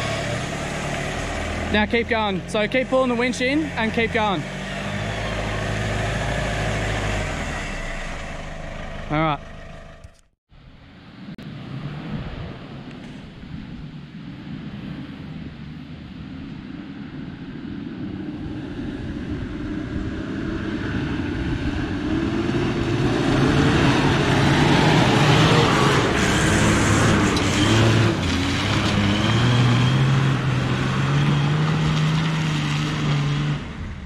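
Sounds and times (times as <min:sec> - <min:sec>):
engine working under load: 0:00.0 - 0:34.0.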